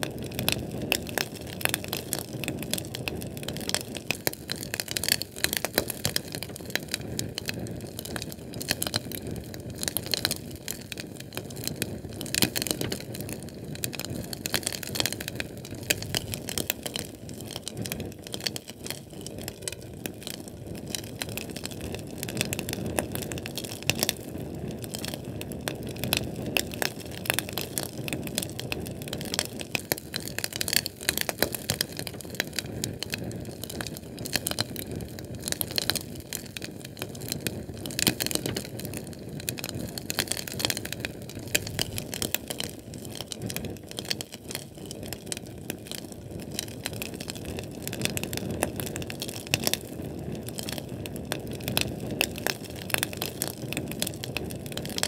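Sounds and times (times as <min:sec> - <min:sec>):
fire crackling and popping: 0:00.0 - 0:55.0
low rush of flame: 0:00.0 - 0:55.0.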